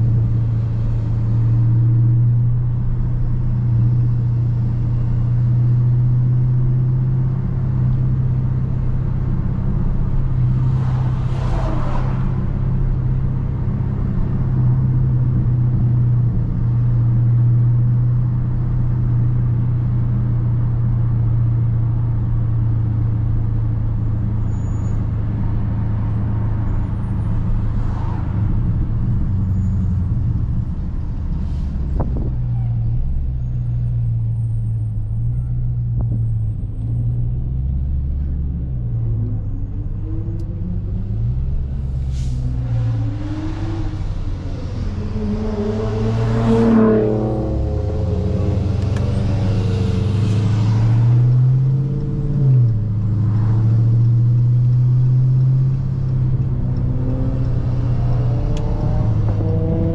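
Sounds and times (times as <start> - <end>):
car engine low drone: 0.0 - 59.9.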